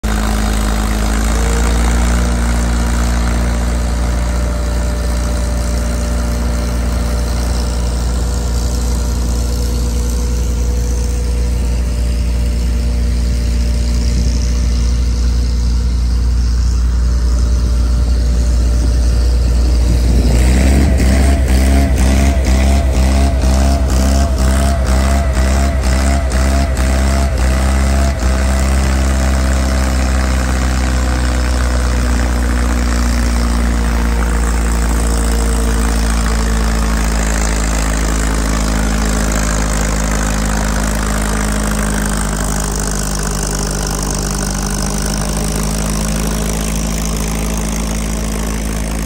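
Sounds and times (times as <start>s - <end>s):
pulsing wavering engine: 0.0s - 49.0s
tractor engine running: 0.0s - 49.0s.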